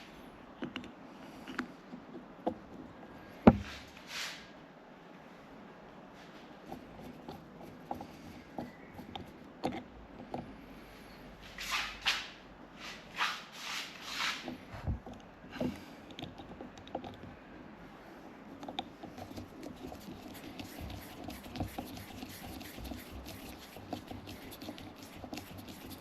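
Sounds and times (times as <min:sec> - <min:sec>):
light clicks and scratches: 0:00.6 - 0:04.4, 0:06.2 - 0:26.0.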